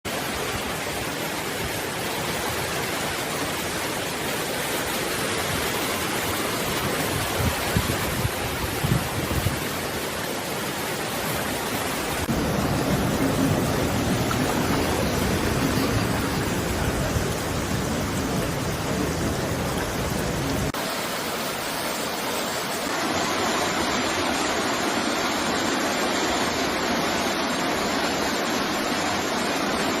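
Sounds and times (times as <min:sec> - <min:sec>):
floodwater rushing: 0:00.1 - 0:30.0.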